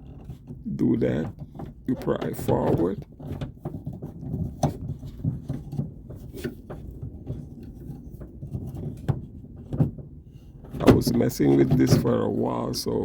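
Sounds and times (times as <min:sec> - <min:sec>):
irregular clicks and light knocks: 0:00.0 - 0:13.0.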